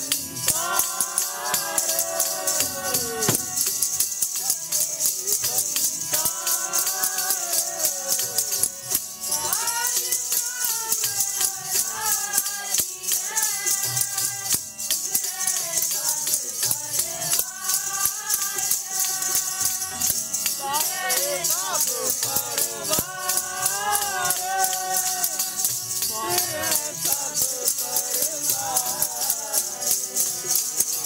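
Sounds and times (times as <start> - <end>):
voices singing a hymn: 0.0 - 31.0.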